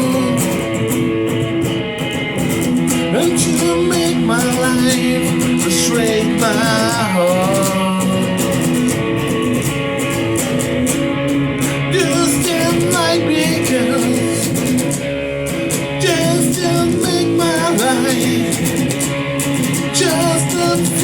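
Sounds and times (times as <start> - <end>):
person singing: 0.0 - 1.3, 2.7 - 21.0
guitar strumming chords: 0.0 - 21.0.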